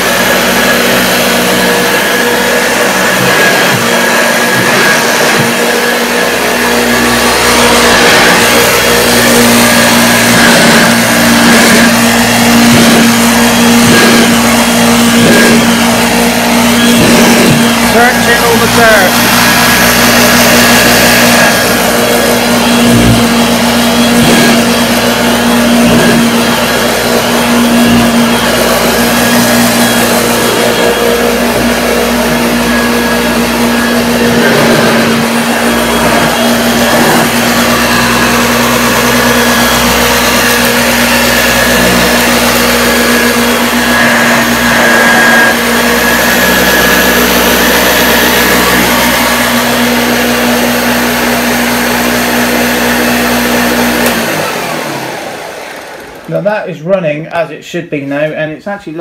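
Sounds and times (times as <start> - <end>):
vacuum cleaner humming: 0.0 - 59.0.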